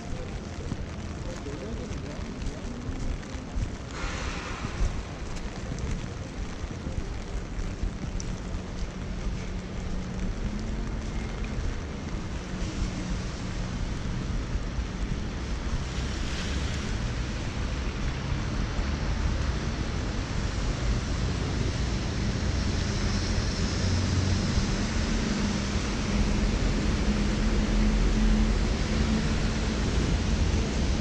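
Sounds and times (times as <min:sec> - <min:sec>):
rain drumming on umbrella: 0:00.0 - 0:31.0
tyres hissing on wet street: 0:00.0 - 0:31.0.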